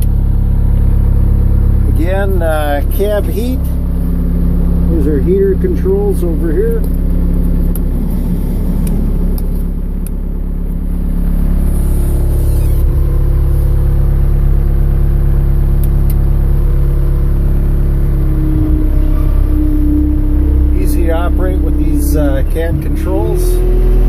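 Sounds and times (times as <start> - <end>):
diesel engine revving: 0.0 - 24.0.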